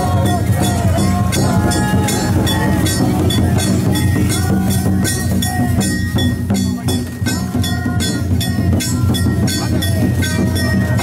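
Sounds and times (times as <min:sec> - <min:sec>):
drums beating fast: 0:00.0 - 0:11.0
struck metal bells: 0:00.0 - 0:11.0.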